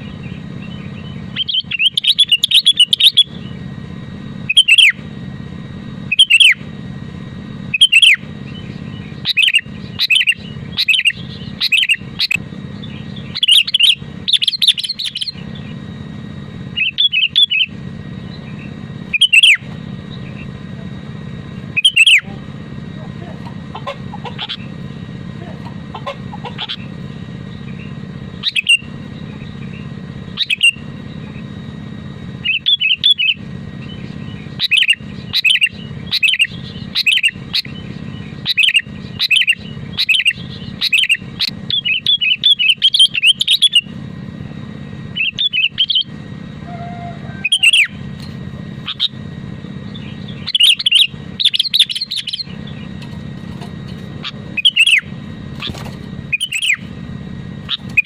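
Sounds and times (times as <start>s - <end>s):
bird chirping: 0.0s - 3.7s, 4.4s - 5.0s, 6.1s - 6.6s, 7.7s - 15.9s, 16.7s - 20.6s, 21.5s - 22.3s, 23.4s - 24.8s, 25.9s - 31.5s, 32.4s - 43.9s, 45.1s - 49.2s, 49.8s - 57.0s, 57.6s - 58.0s
low background hum: 0.0s - 58.0s.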